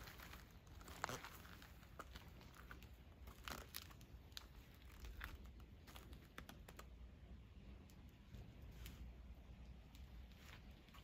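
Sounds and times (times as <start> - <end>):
faint ticks and crinkles: 0.0 - 11.0
low steady rumble: 0.0 - 11.0.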